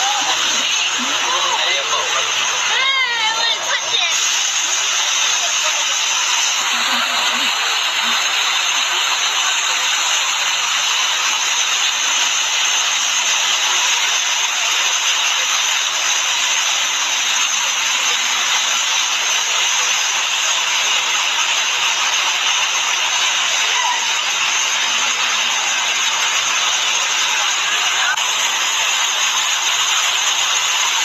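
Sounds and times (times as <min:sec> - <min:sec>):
fountain water splashing: 0:00.0 - 0:31.0.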